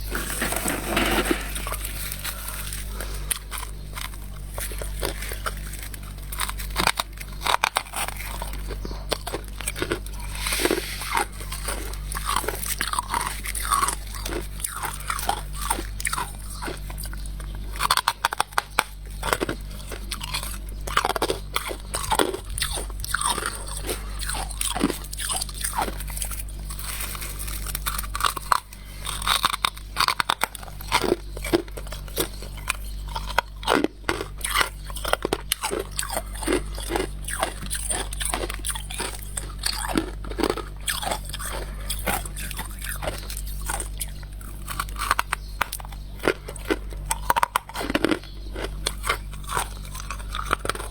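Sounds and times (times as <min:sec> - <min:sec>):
chewing crunchy ice: 0:00.0 - 0:50.9.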